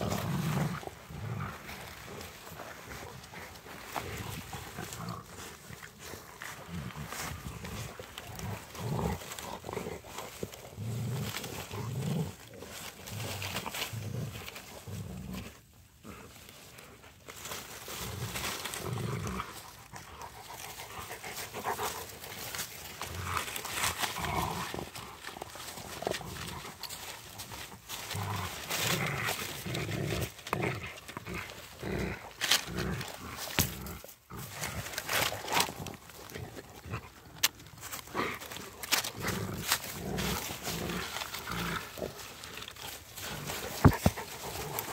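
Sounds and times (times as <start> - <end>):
dogs play growling: 0.0 - 44.9
twigs cracking and rustling: 0.0 - 44.9.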